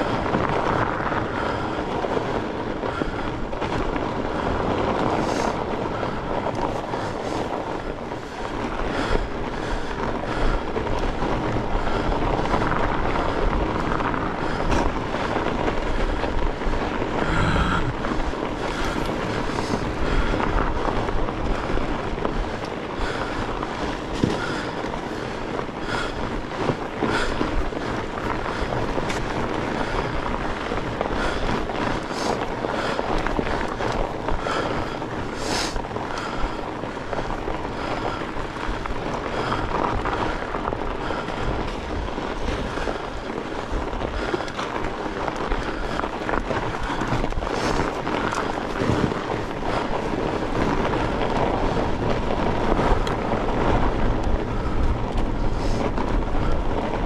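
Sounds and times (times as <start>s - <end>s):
crackling clicks and knocks: 0.0s - 57.0s
tyre and wind rush: 0.0s - 57.0s.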